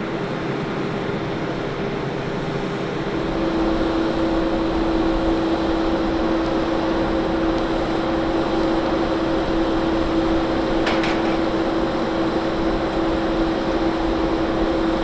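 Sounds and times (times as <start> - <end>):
aircraft mechanical drone: 0.0 - 15.0.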